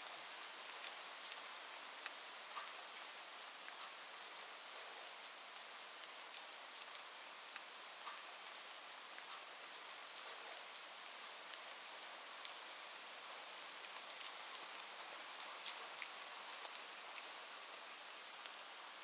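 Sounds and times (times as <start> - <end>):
raindrops ticking on surface: 0.0 - 19.0
steady rain: 0.0 - 19.0.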